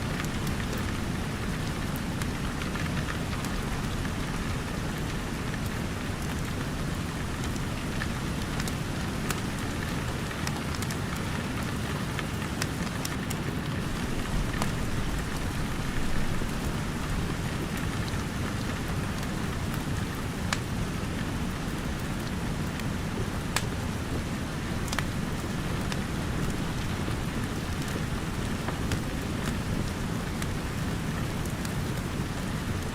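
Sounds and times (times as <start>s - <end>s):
steady rain: 0.0s - 32.9s
wood fire crackling: 0.1s - 32.9s.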